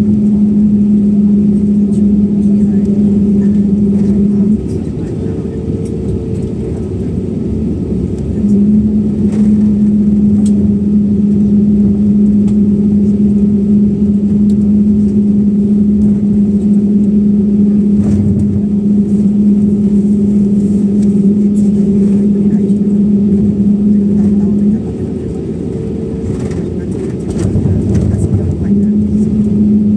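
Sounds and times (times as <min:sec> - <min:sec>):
constant hum: 0:00.0 - 0:29.9
vehicle running drone: 0:00.0 - 0:29.9.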